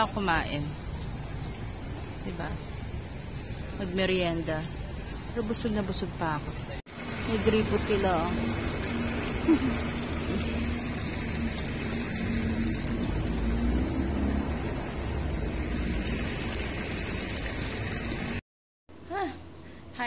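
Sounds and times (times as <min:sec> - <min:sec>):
street noise: 0:00.0 - 0:19.1
low rumble of traffic: 0:00.0 - 0:20.0.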